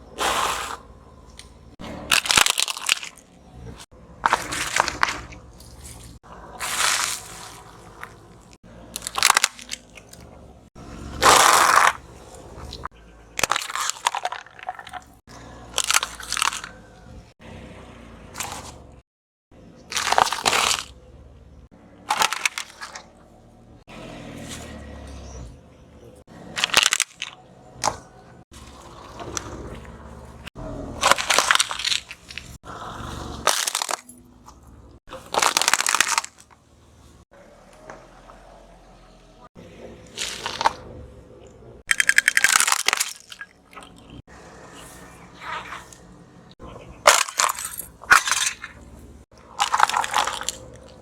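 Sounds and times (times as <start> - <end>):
objects crunching under car tyre: 0.0 - 19.0, 19.6 - 25.5, 26.2 - 51.0.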